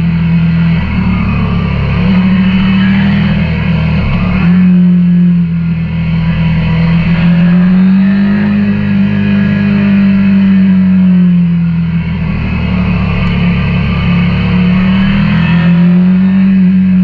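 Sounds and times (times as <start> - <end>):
motorcycle engine cruising: 0.0 - 17.0
road noise: 0.0 - 17.0.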